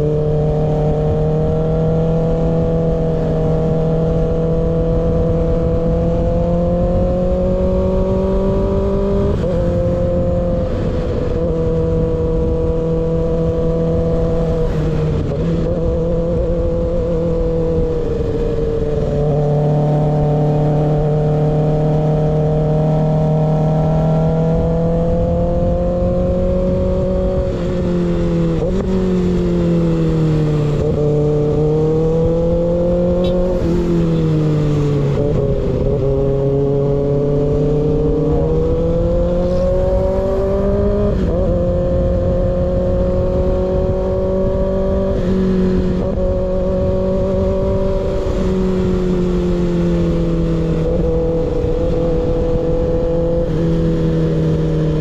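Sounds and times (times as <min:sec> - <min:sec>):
motorcycle engine revving: 0:00.0 - 0:55.0
wind rumble: 0:00.0 - 0:55.0.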